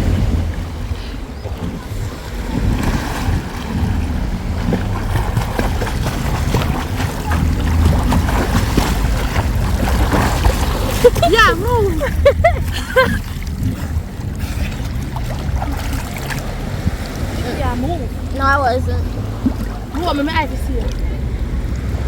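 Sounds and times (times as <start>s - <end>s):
water splashing: 0.0s - 22.0s
waves breaking: 0.0s - 22.0s
wind rumbling on microphone: 0.0s - 22.0s.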